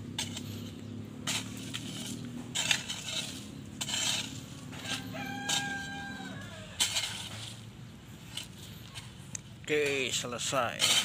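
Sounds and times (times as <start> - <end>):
hand tool scraping dry soil: 0.0 - 11.0.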